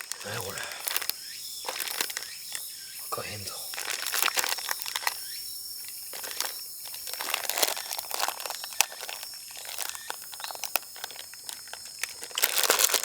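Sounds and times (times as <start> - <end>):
plastic packaging crinkling: 0.0 - 2.6, 3.2 - 13.0.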